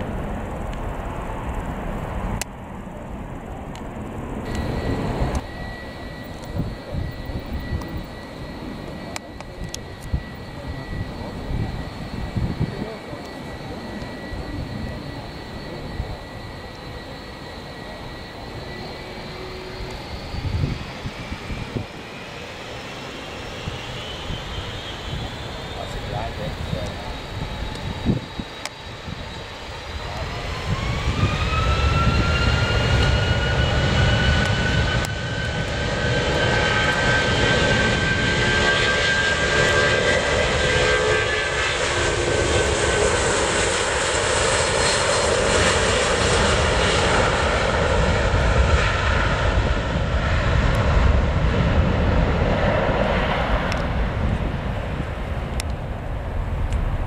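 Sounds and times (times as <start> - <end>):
jet engine takeoff roar: 0.0 - 57.0
jet engine whine rising: 0.0 - 57.0.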